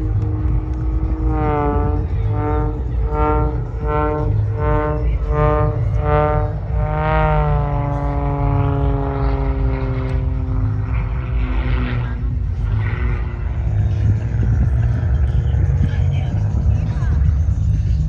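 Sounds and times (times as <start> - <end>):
low steady rumble: 0.0 - 18.0
propeller plane engine droning: 0.0 - 18.0.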